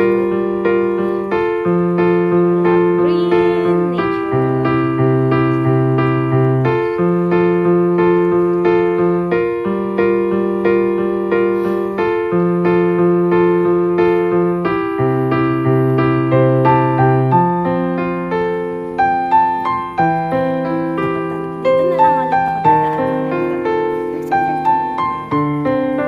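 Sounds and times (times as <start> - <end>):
electric piano chords: 0.0 - 26.0.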